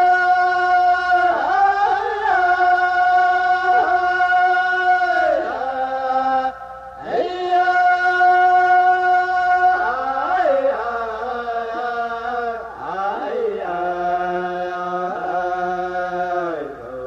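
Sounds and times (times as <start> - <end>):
chanting voice: 0.0 - 17.0.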